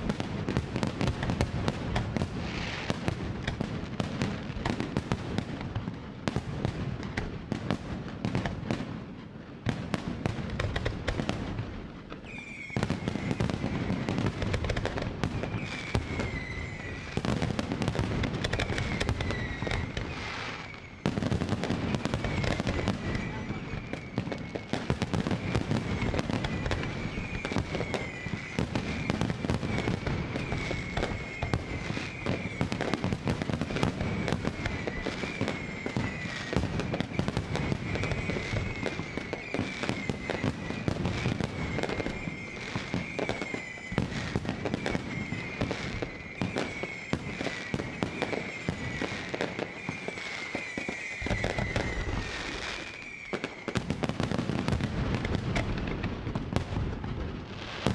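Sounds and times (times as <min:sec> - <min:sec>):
fireworks bangs and crackles: 0:00.0 - 0:57.9
fireworks low booms: 0:00.0 - 0:57.9.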